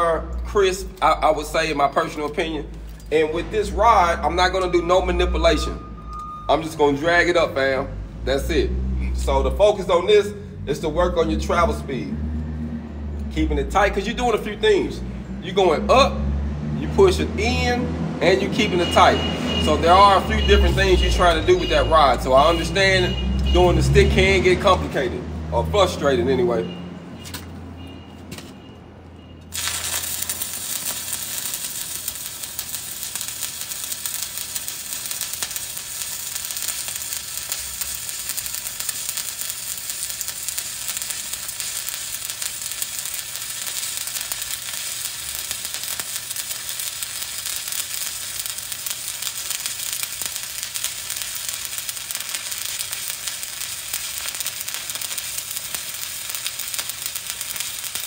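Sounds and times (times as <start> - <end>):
welding arc burning: 0.0 - 5.8, 13.4 - 26.0, 29.5 - 58.0.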